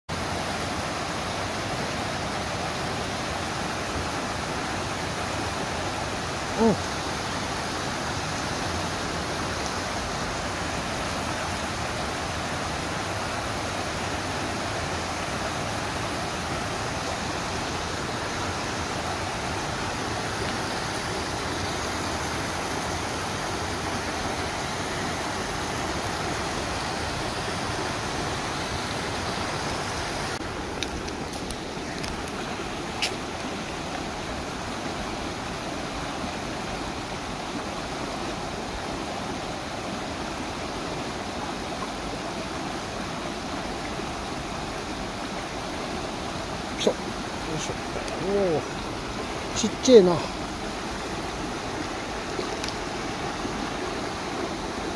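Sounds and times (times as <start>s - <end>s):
stream running over stones: 0.1s - 54.9s.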